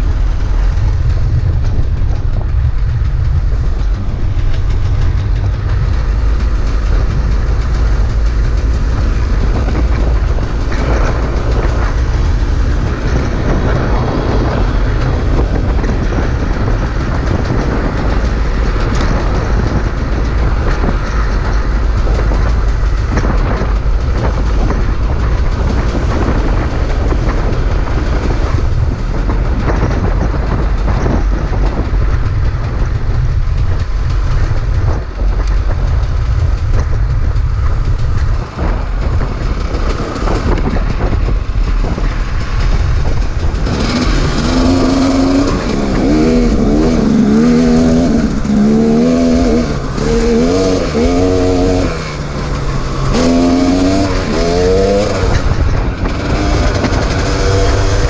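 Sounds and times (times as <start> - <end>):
motorbike engine rumbling: 0.0 - 58.0.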